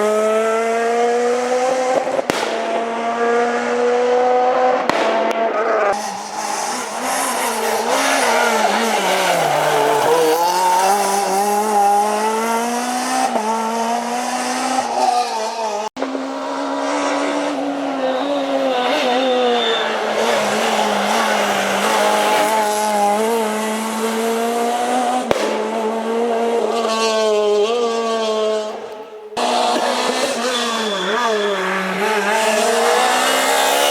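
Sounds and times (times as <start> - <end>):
rally car engine at full effort: 0.0 - 33.9.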